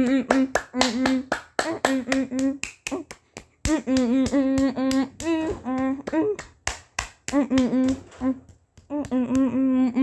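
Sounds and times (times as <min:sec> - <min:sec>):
stuttering chopped voice clip: 0:00.0 - 0:06.5, 0:07.3 - 0:10.0.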